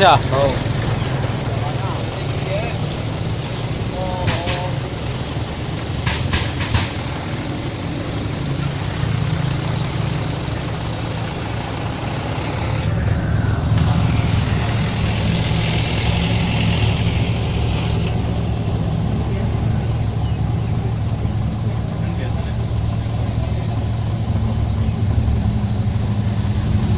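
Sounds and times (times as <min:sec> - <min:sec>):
road noise hiss: 0:00.0 - 0:26.9
vehicle engine humming: 0:00.0 - 0:26.9.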